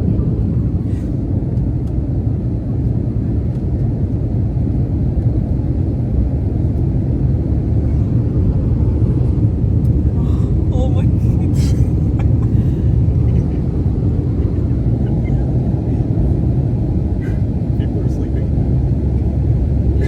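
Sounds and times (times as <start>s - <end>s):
jet engines rumbling in cabin: 0.0s - 20.0s.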